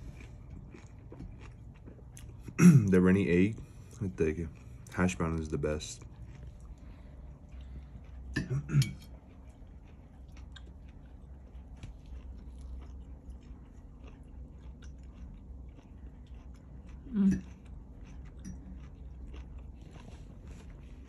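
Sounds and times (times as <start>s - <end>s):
low steady hum: 0.0s - 21.0s
person chewing food: 0.0s - 21.0s.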